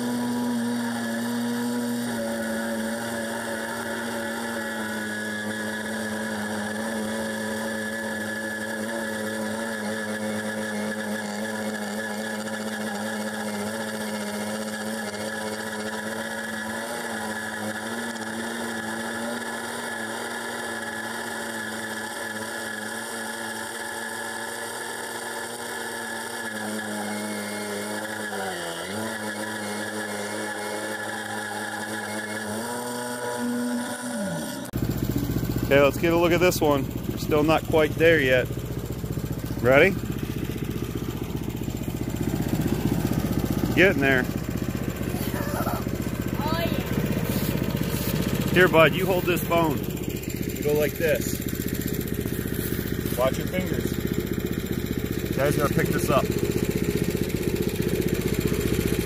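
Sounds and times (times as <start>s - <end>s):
band saw blade cutting log: 0.0s - 59.0s
gas engine running under load: 0.0s - 59.0s.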